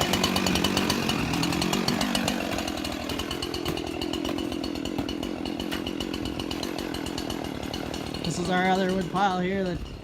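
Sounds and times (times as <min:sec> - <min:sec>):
chainsaw running: 0:00.0 - 0:10.0.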